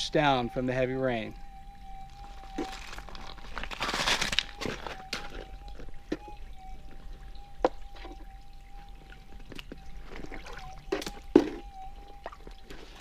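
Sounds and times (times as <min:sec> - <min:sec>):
metal detector threshold hum: 0:00.0 - 0:13.0
water trickling: 0:00.0 - 0:13.0.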